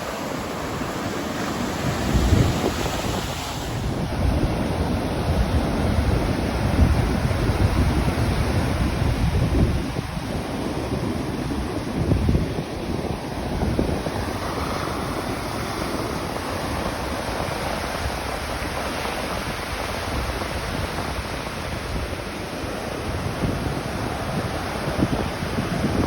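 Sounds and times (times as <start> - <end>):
low rumble of breaking waves: 0.0 - 26.0
ocean surf washing in: 0.0 - 26.0.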